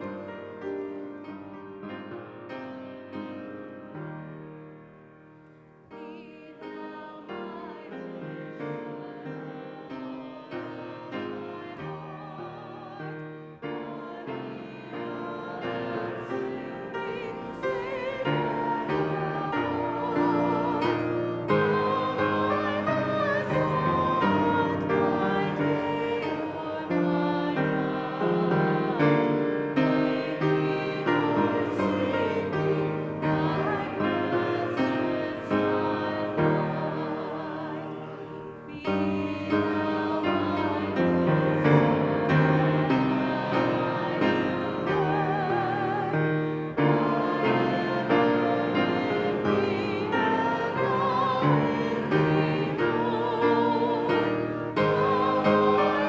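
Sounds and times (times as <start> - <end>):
piano accompaniment: 0.0 - 56.0.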